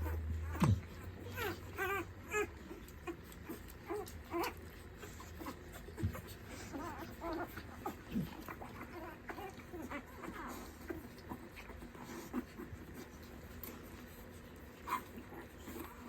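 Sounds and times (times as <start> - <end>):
puppies whimpering: 0.0 - 16.0.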